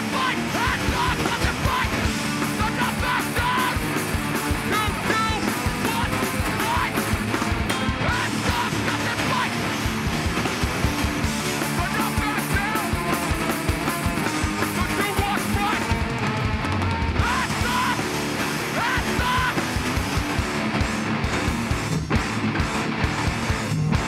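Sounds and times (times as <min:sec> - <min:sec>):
distorted electric guitars: 0:00.0 - 0:24.0
fast pounding drums: 0:00.0 - 0:24.0.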